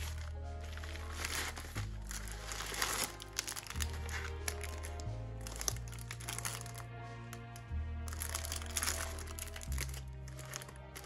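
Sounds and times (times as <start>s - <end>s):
plastic wrap crinkling: 0.0s - 7.5s, 8.1s - 11.0s
background music with bass line: 0.0s - 11.0s.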